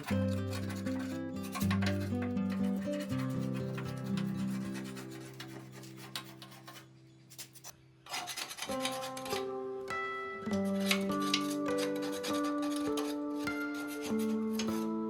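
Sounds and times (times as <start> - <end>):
rusty steel scraped by hand: 0.0 - 9.6, 10.5 - 15.0
soft background music: 0.0 - 15.0.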